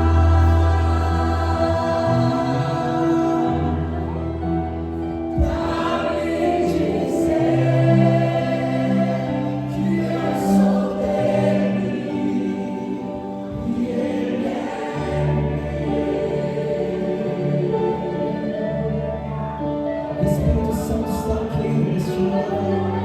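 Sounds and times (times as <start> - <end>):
choir singing held notes: 0.0 - 23.0
sustained chords: 0.0 - 23.0.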